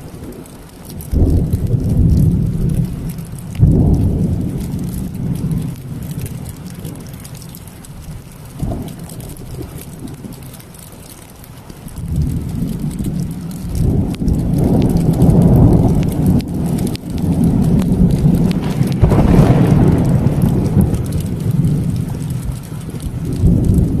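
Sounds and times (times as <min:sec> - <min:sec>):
rolling rumble of thunder: 0:00.0 - 0:10.9, 0:11.9 - 0:24.0
rain falling: 0:00.0 - 0:24.0.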